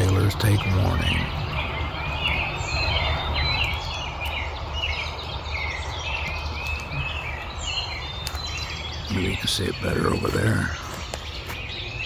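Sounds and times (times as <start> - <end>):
steady low rumble: 0.0 - 10.8
songbirds chirping and warbling: 0.0 - 12.0.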